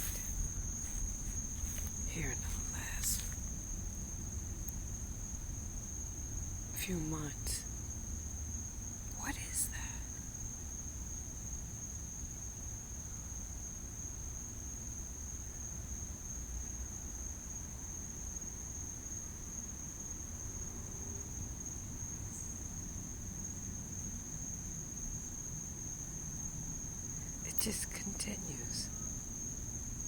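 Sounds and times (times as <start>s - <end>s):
crickets trilling: 0.0s - 30.0s
low background noise: 0.0s - 30.0s.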